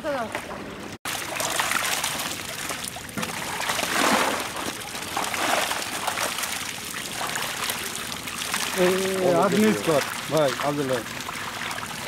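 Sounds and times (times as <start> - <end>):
fish splashing in a net: 1.1 - 9.1, 9.8 - 12.0.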